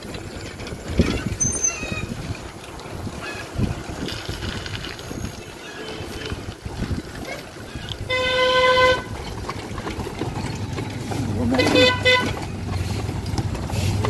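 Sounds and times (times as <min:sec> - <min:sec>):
wind rumbling on microphone: 0:00.0 - 0:12.2.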